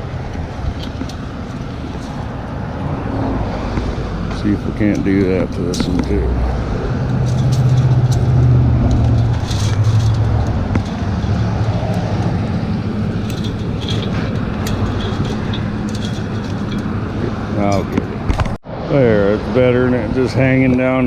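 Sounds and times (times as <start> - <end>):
passing vehicle engine hum: 0.0 - 21.0
traffic drone: 0.0 - 21.0.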